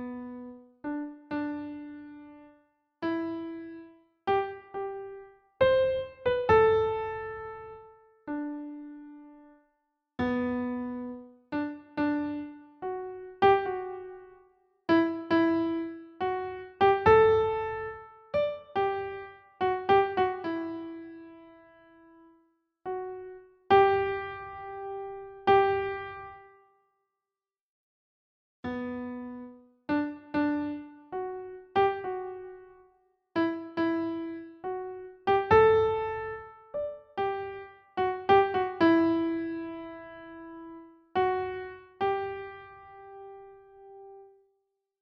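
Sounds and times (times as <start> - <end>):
slow piano melody: 0.0 - 9.6, 10.2 - 26.6, 28.7 - 44.4.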